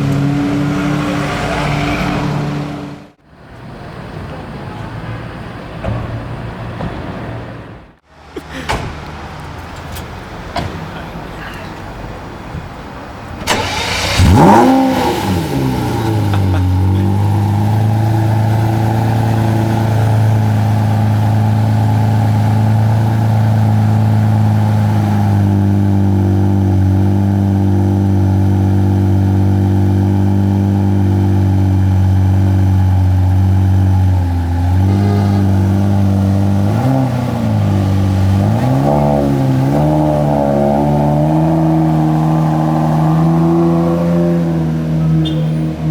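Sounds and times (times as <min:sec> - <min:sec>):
engine throttle blips: 0:00.0 - 0:03.2, 0:08.2 - 0:45.9
car engine starting and idling: 0:00.0 - 0:45.9.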